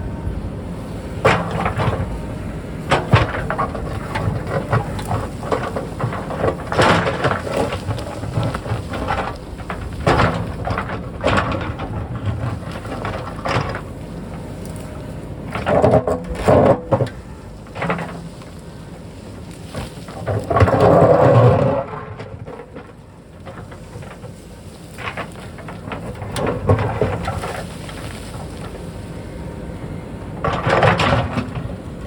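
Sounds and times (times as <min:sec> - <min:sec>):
bucket crunching rock and soil: 0:00.0 - 0:32.0
diesel engine running: 0:00.0 - 0:32.0.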